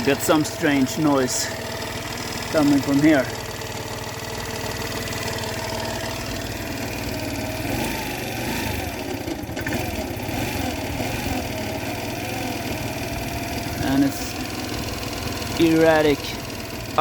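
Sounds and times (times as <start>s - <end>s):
scooter engine idling unevenly: 0.0s - 17.0s.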